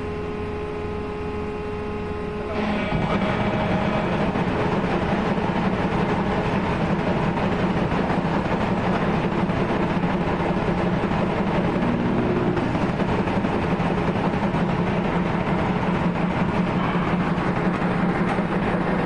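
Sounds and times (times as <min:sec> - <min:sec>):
machinery rumble and rattle: 0:00.0 - 0:19.0.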